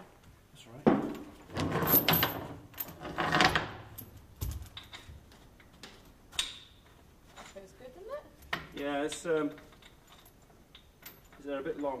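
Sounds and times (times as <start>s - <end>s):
metal chains rattling: 1.1s - 5.3s, 6.0s - 12.0s.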